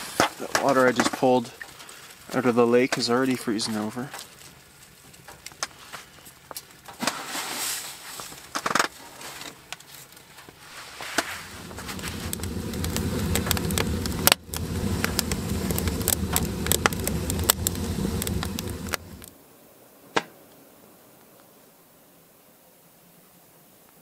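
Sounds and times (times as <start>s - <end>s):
wood fire crackling: 0.0s - 19.4s.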